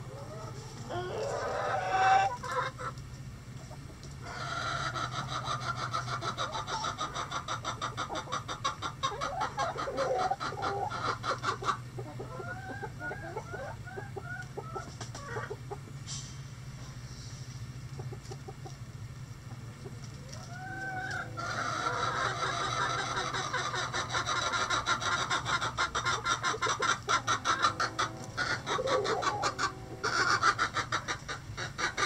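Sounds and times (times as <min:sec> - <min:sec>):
chickens clucking and calling: 0:00.0 - 0:32.0
steady low hum: 0:00.0 - 0:32.0.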